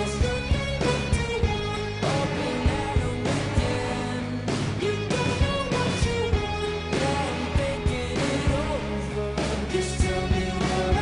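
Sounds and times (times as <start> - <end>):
rock music with singing: 0.0 - 11.0.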